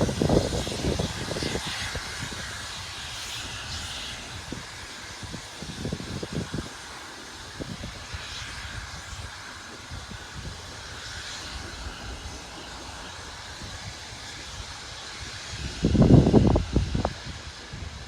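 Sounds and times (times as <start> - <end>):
train rumble and hiss: 0.0 - 18.0.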